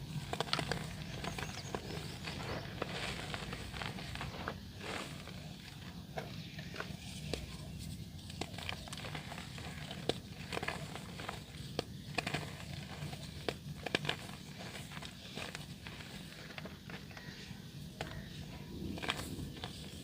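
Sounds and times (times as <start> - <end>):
dirt crumbling and crunching: 0.0 - 20.0
steady low hum: 0.0 - 20.0.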